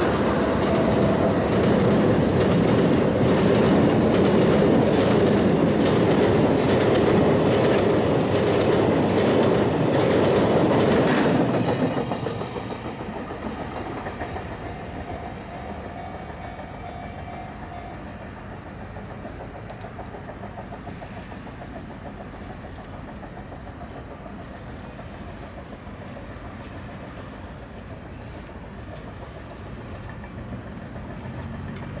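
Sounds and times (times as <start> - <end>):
train low rumble: 0.0 - 32.0
train wheels clacking over rail joints: 0.0 - 32.0.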